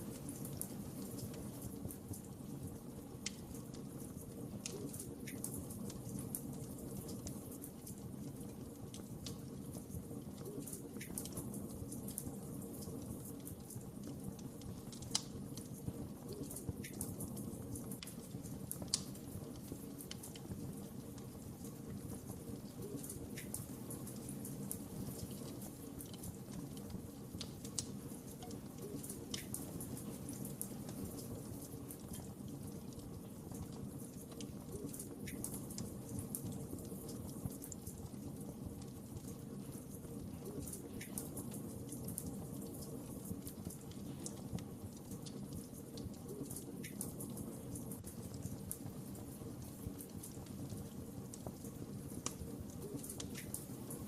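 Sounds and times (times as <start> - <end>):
fire flames rumbling: 0.0 - 54.0
wood fire crackling and popping: 0.0 - 54.0.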